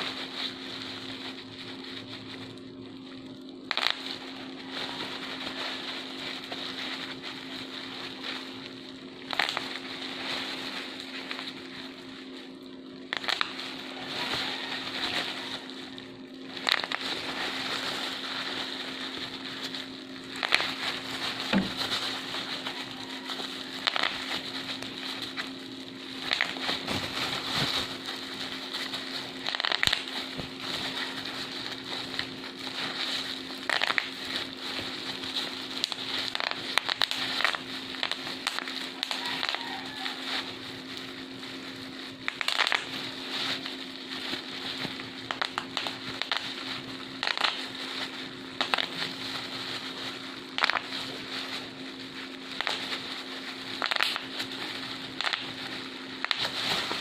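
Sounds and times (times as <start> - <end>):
bubble wrap crinkling and popping: 0.0 - 57.0.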